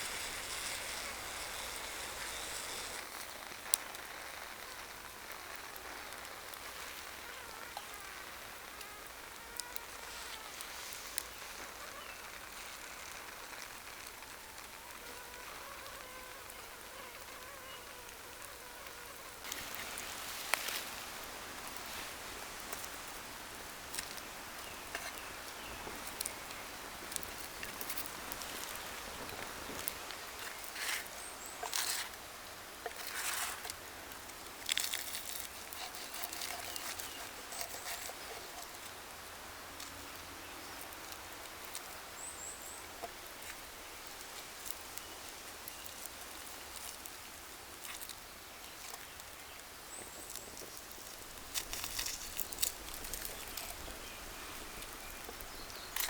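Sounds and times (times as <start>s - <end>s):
campfire crackling and popping: 0.0s - 17.4s, 18.0s - 56.0s.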